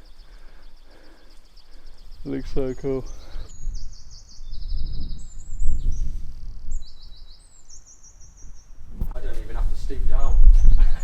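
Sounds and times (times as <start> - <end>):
songbird trilling: 0.0 - 8.8.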